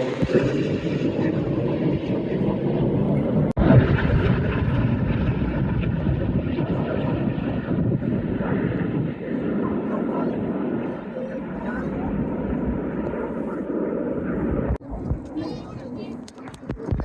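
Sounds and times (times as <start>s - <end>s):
aircraft engine rumble overhead: 0.0s - 17.0s.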